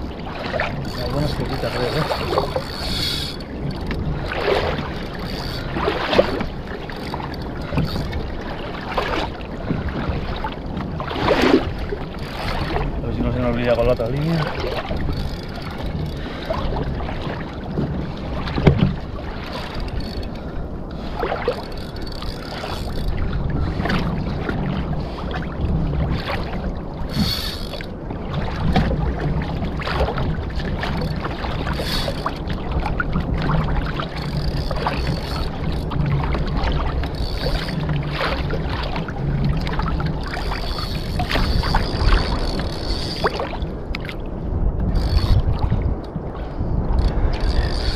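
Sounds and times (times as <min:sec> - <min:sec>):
water lapping against kayak hull: 0:00.0 - 0:47.9.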